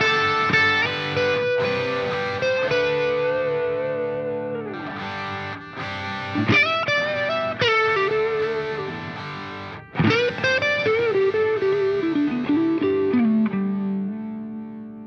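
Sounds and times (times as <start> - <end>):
distorted electric guitar music: 0.0 - 15.0.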